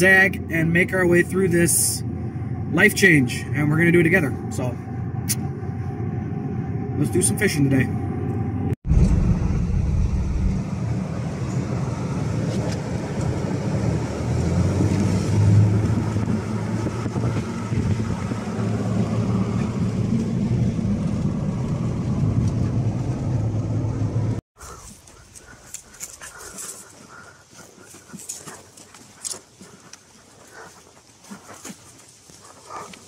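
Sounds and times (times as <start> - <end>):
engine hum: 0.0 - 33.0
tyre and road noise: 0.0 - 33.0.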